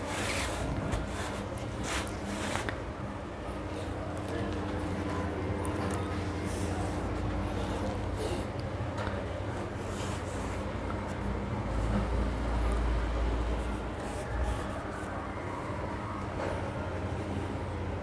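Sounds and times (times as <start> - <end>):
low hum and rumble: 0.0 - 18.0.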